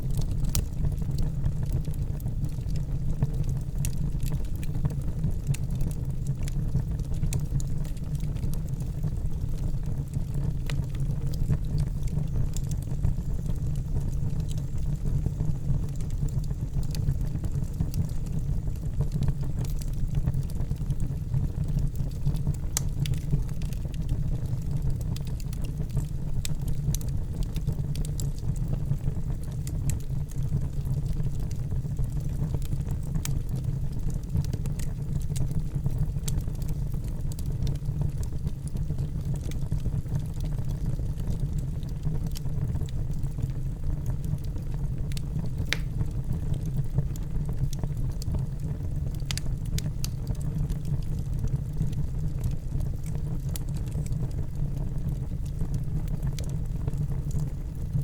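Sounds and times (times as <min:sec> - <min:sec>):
fire crackling and popping: 0:00.0 - 0:58.0
low rumble of fire: 0:00.0 - 0:58.0.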